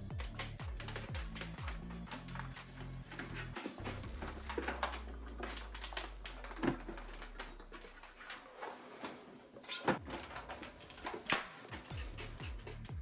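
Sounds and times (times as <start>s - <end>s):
tools and plastic parts knocking: 0.0s - 8.4s, 9.6s - 13.0s.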